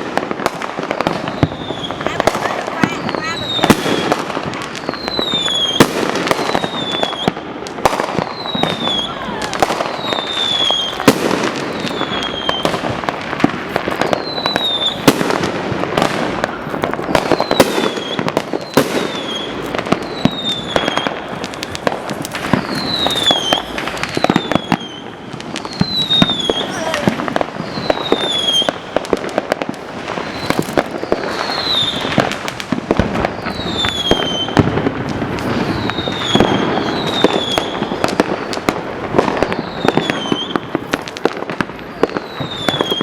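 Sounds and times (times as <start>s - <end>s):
firework whistles: 0.0s - 43.0s
fireworks bangs and crackles: 0.0s - 43.0s.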